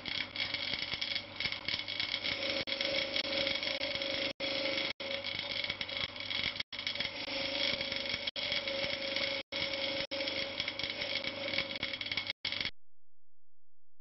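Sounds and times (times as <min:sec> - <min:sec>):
wire wheel scratching metal: 0:00.0 - 0:12.7.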